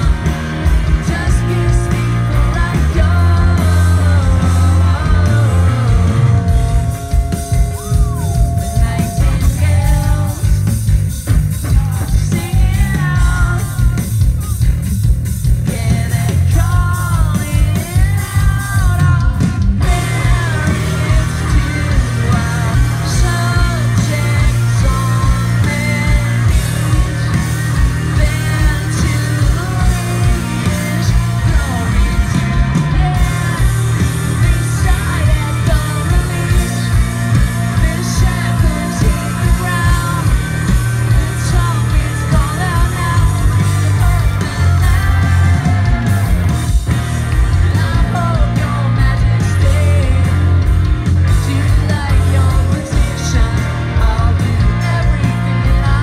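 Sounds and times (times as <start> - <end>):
live rock band playing: 0.0 - 56.0
man singing lead vocals: 0.0 - 56.0.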